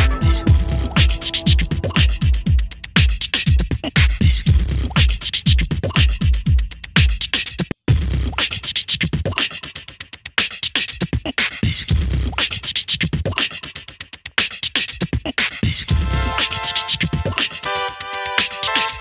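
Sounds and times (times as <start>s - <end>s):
electronic hip-hop beat: 0.0s - 19.0s.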